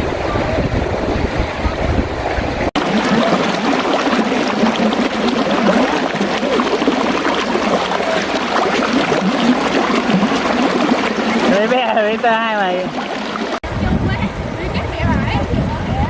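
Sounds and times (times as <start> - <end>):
wind rumbling on microphone: 0.0 - 11.5, 13.2 - 16.0
running water gurgling: 0.0 - 16.0.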